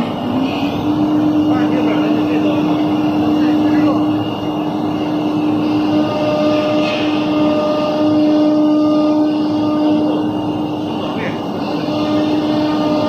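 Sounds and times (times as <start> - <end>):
machining rush: 0.0 - 13.0
router spindle whine: 0.0 - 13.0.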